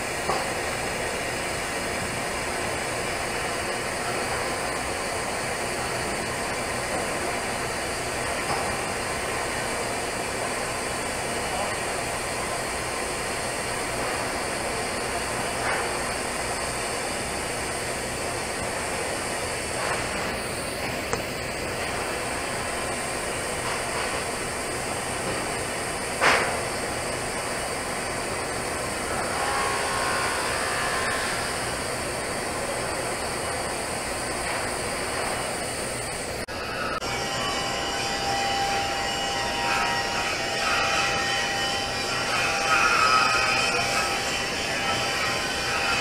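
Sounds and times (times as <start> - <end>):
welding arc hissing: 0.0 - 46.0.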